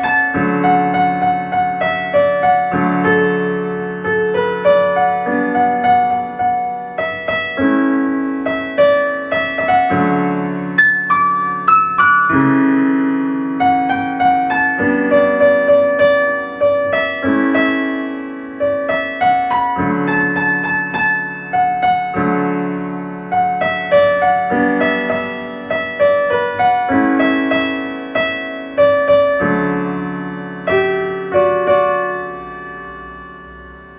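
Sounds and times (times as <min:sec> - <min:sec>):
solo piano music: 0:00.0 - 0:33.9.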